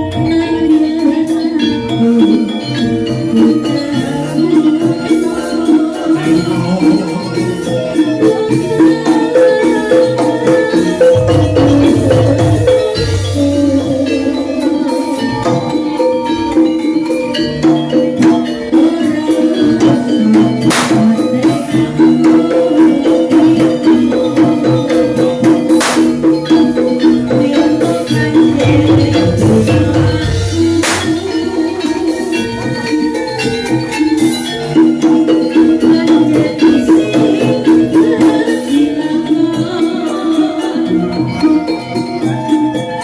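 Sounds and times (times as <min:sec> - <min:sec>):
metallophones ringing melody: 0:00.0 - 0:43.0
sharp percussion strokes: 0:00.0 - 0:43.0.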